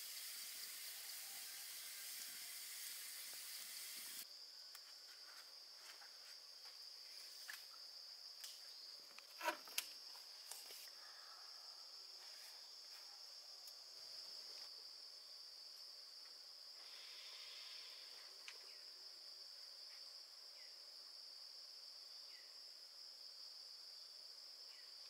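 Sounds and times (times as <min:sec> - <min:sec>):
insects trilling: 0:00.0 - 0:15.8, 0:16.6 - 0:21.0.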